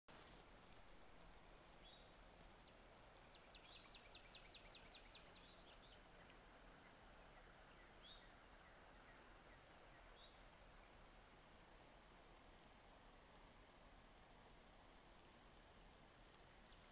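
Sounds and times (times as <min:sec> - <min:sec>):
faint steady hiss: 0:00.1 - 0:16.9
songbird singing: 0:00.7 - 0:16.9.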